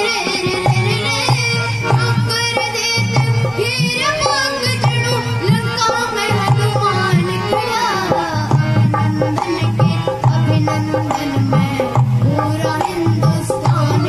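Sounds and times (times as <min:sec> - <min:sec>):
boy singing into a microphone: 0:00.0 - 0:14.0
steady drum beat: 0:00.0 - 0:14.0.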